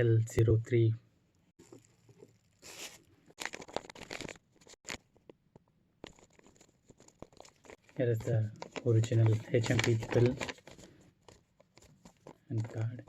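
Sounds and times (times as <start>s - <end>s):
packaging rustling and scraping: 1.6s - 5.3s, 6.0s - 13.0s.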